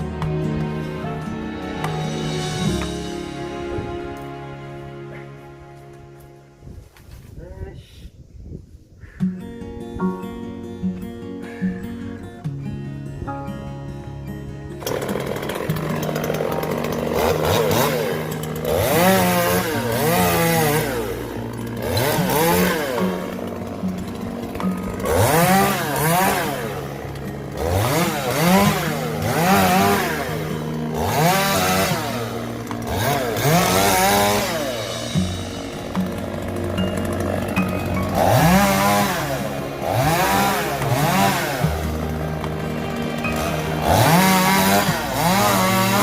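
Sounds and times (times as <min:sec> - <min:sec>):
chainsaw revving and cutting wood: 0:00.0 - 0:06.3, 0:13.8 - 0:46.0.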